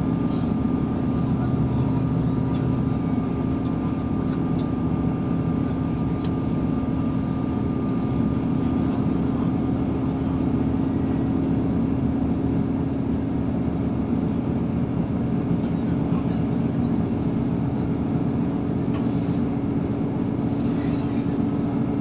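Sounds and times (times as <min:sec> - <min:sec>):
train cabin drone and hum: 0:00.0 - 0:22.0
wheel-on-rail rumble: 0:00.0 - 0:22.0.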